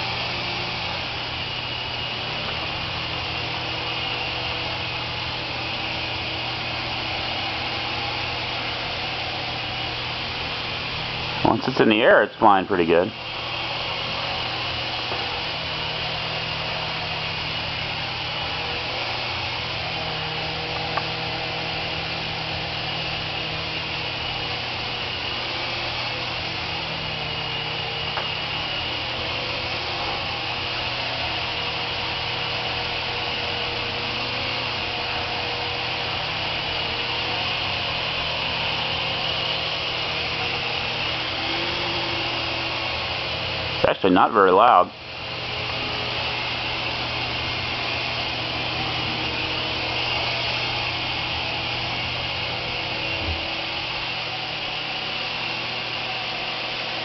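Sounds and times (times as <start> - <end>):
toy helicopter rotor whirr: 0.0 - 57.0.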